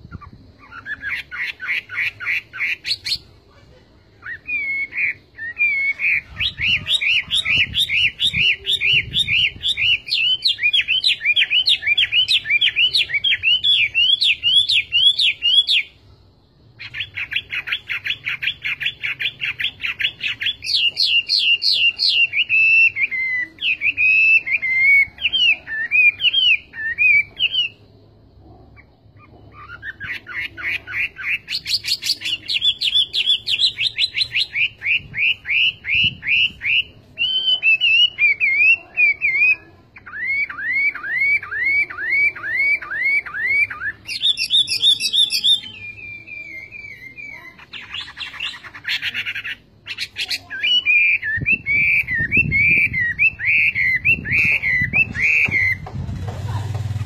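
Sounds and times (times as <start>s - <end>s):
bird singing whistled notes: 0.0s - 3.3s, 4.2s - 27.8s, 28.8s - 55.8s.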